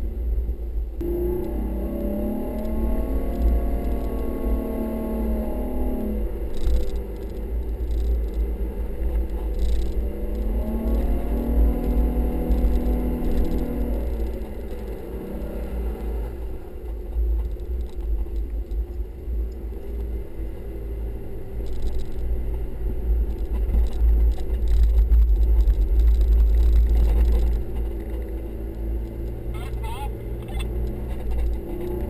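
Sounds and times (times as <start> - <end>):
vehicle engine low rumble: 0.0 - 32.0.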